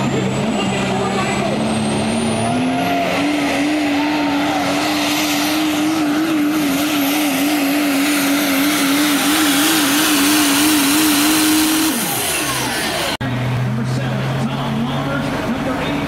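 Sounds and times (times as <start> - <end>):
diesel truck engine under load: 0.0 - 16.0.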